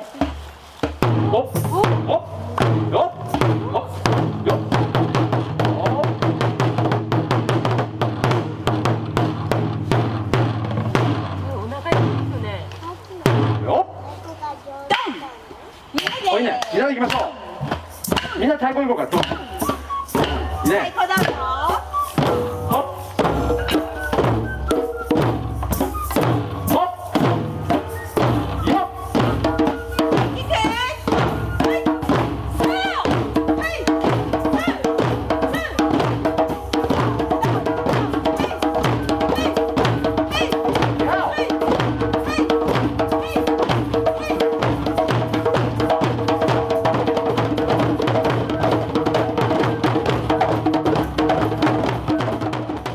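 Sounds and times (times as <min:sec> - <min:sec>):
group of drums beating: 0:00.0 - 0:14.1, 0:15.9 - 0:52.9.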